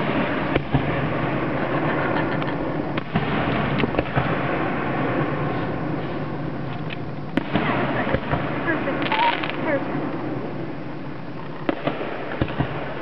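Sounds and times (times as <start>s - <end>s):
fireworks bangs and cracks: 0.0s - 13.0s
steady noisy background: 0.0s - 13.0s.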